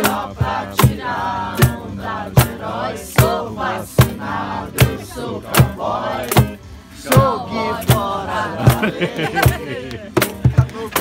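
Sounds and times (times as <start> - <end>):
acoustic guitar strumming: 0.0 - 11.0
people singing: 0.0 - 11.0.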